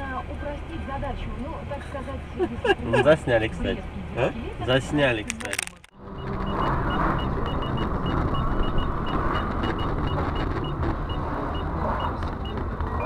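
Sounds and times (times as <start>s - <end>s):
vehicle road noise: 0.0s - 13.0s.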